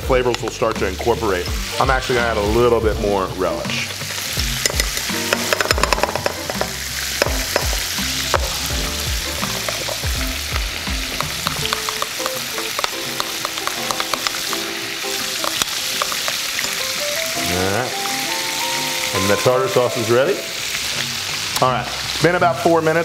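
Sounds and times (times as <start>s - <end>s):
fish frying in oil: 0.0s - 23.0s.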